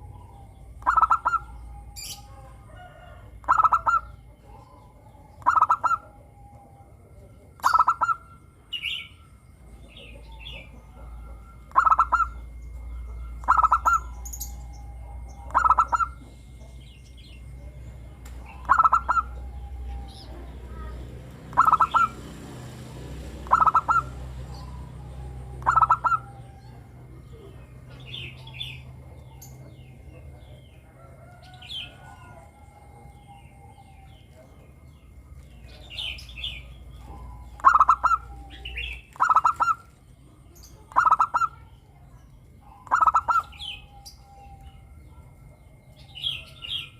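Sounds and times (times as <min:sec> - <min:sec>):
dove trilled coos: 0:00.0 - 0:46.9.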